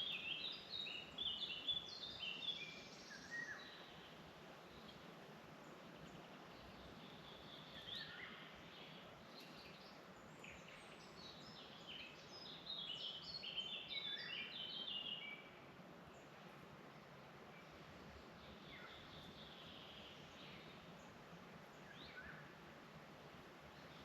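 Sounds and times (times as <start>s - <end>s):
songbirds singing: 0.0s - 24.0s
steady soft hiss: 0.0s - 24.0s.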